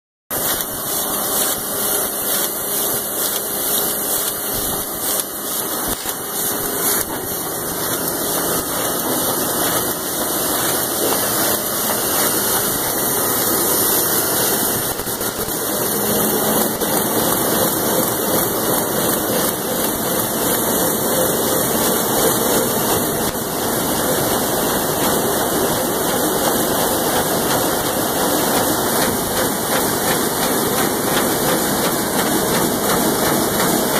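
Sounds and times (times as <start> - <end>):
printing press running: 0.3 - 33.9.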